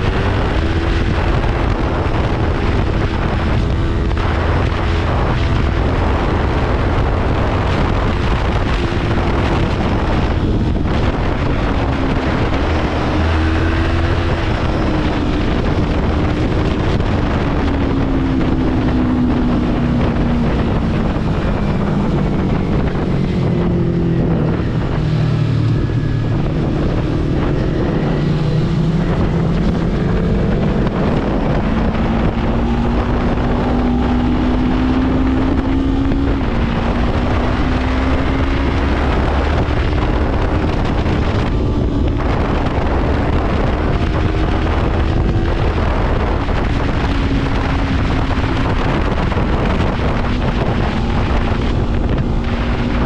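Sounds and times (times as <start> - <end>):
motorcycle engine revving: 0.0 - 53.0
wind noise on microphone: 0.0 - 53.0.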